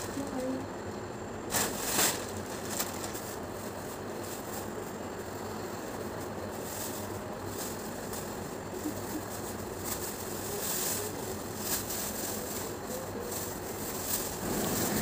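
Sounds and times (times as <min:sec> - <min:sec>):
plastic and cloth rustling: 0:00.0 - 0:00.6, 0:01.5 - 0:15.0
steady background hum: 0:00.0 - 0:15.0.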